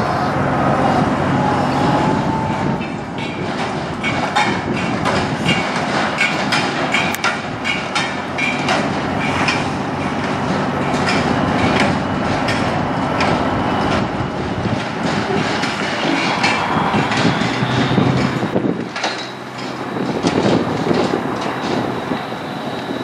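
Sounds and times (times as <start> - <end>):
diesel truck engine running: 0.0 - 23.0
metal trailer clanking: 1.0 - 23.0.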